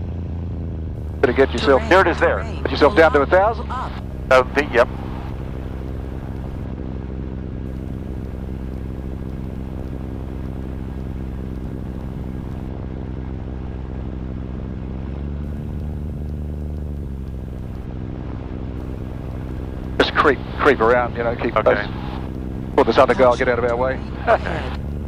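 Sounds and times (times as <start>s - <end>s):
light airplane engine drone: 0.0s - 25.0s.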